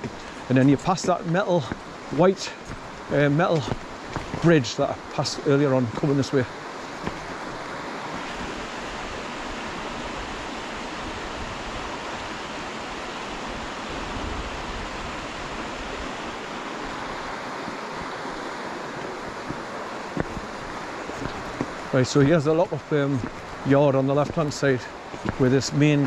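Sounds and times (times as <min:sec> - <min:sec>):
stream flowing: 0:00.0 - 0:26.0.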